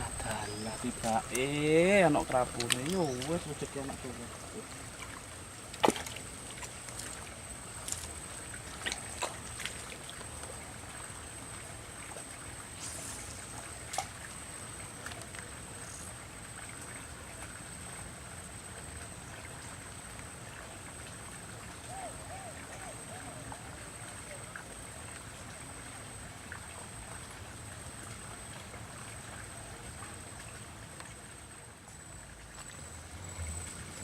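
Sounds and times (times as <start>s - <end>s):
river water washing: 0.0s - 34.0s.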